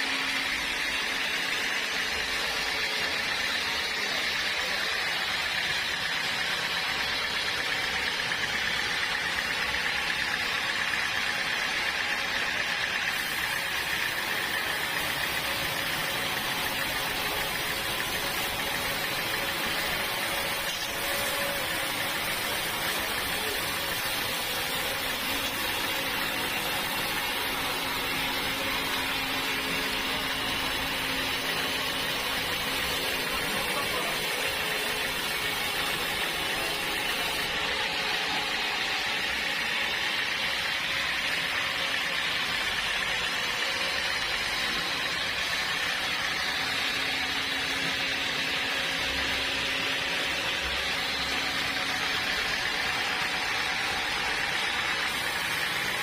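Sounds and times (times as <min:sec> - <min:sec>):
sawmill saw cutting log: 0:00.0 - 0:56.0.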